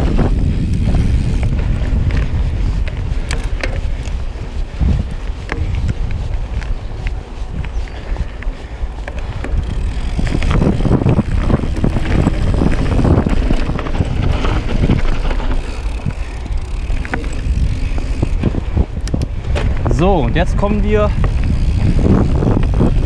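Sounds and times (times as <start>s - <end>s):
bike rattling and knocking: 0.0s - 23.0s
bike tyre noise: 0.0s - 23.0s
wind on microphone: 0.0s - 23.0s.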